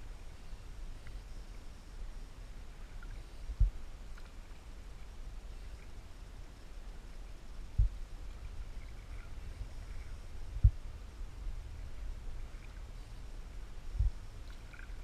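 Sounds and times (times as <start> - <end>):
low rumble of canoe on river: 0.0 - 15.0.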